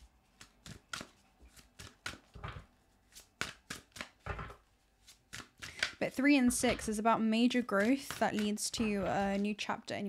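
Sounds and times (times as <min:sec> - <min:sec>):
cards being shuffled by hand: 0:00.0 - 0:09.8.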